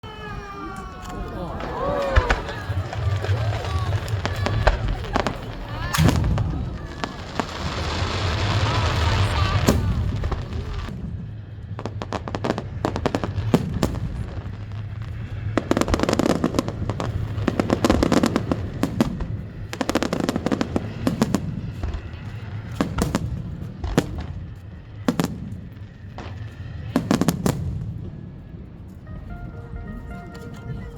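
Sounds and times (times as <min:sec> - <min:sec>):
fireworks bangs and crackles: 0:00.1 - 0:30.9.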